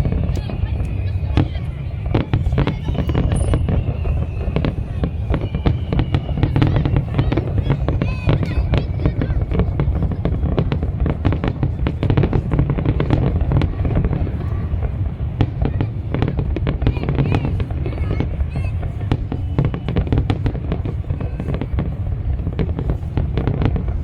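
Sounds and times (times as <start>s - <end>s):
continuous low rumble: 0.0s - 24.0s
fireworks bangs and crackles: 0.0s - 24.0s.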